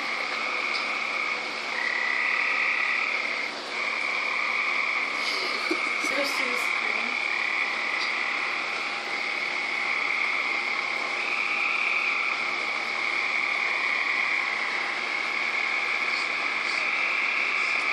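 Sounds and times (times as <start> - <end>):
frogs trilling chorus: 0.0 - 17.9.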